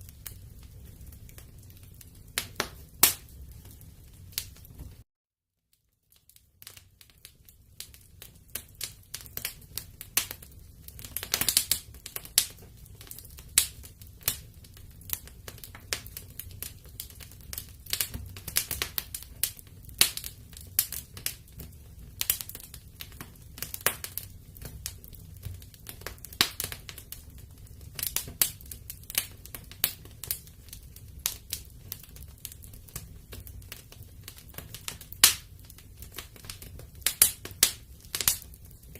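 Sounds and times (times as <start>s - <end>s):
wood fire crackling and popping: 0.0s - 5.0s, 5.8s - 38.9s.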